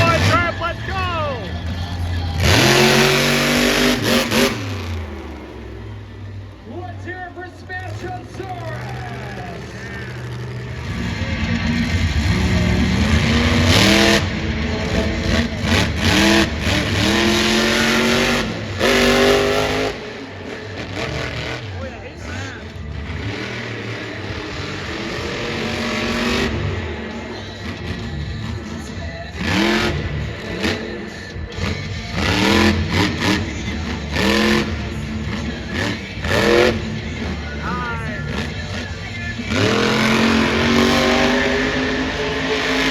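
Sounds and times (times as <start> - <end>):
steady low engine rumble: 0.0 - 42.9
truck engine revving hard: 0.0 - 42.9.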